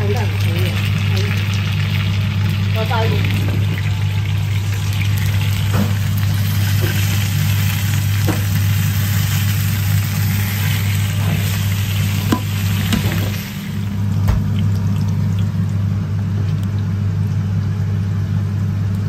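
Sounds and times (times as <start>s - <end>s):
oil sizzling in a pan: 0.0s - 15.6s.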